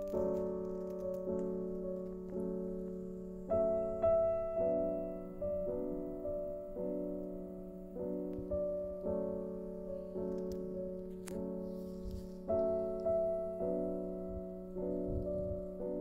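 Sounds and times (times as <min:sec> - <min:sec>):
slow soft piano music: 0:00.0 - 0:16.0.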